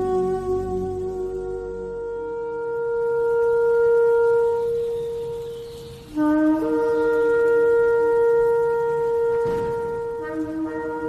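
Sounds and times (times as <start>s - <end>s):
shofar blasts: 0.0s - 11.0s.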